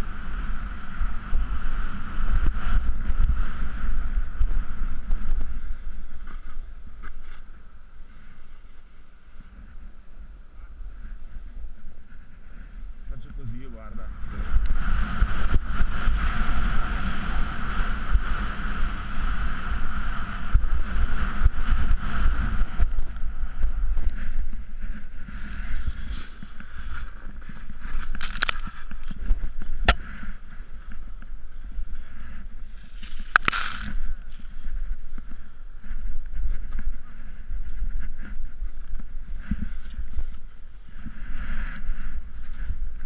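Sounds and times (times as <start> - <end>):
wind and snow rumble: 0.0 - 43.0.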